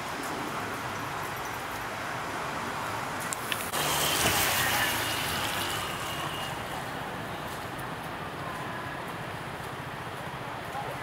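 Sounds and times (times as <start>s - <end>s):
city background hum: 0.0s - 11.0s.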